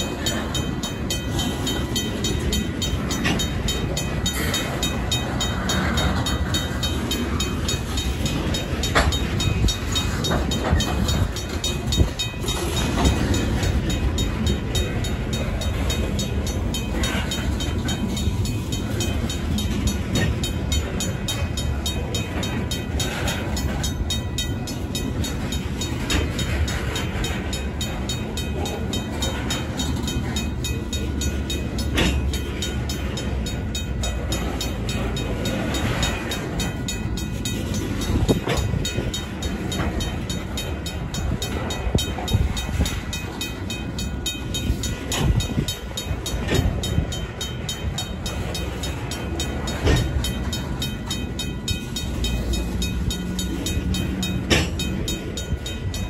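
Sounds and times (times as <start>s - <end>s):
crossing bell ringing: 0.0s - 56.0s
train wheels rumbling on rail: 0.0s - 56.0s.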